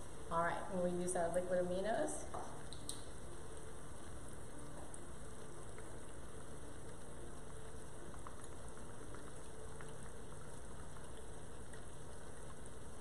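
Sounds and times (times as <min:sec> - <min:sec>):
meat sizzling in a pot: 0:00.0 - 0:13.0
faint crackles: 0:02.1 - 0:13.0.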